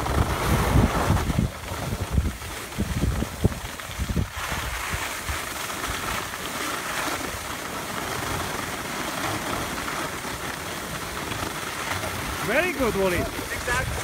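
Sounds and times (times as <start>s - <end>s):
skis sliding over snow: 0.0s - 14.0s
wind rumbling on microphone: 0.0s - 14.0s.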